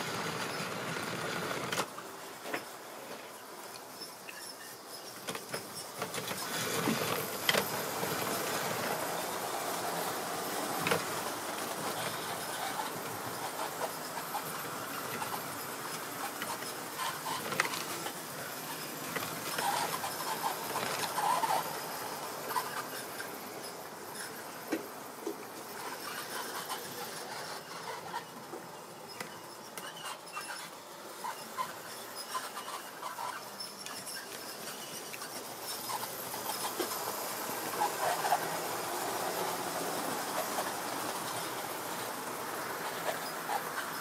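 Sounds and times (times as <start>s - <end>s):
model train cars clicking and rattling: 0.0s - 44.0s.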